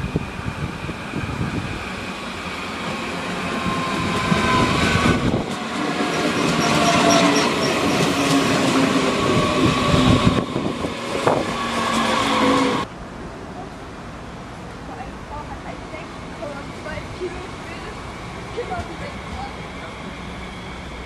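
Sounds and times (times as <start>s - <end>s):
train whine: 0.0s - 12.9s, 15.3s - 21.0s
train passing at speed: 0.0s - 21.0s.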